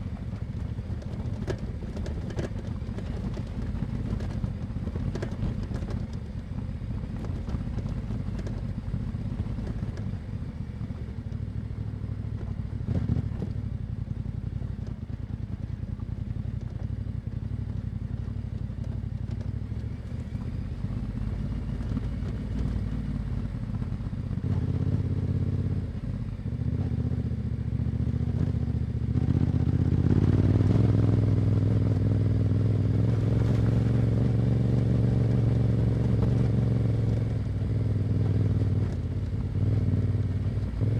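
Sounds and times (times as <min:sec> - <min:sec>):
motorcycle engine riding: 0:00.0 - 0:40.9.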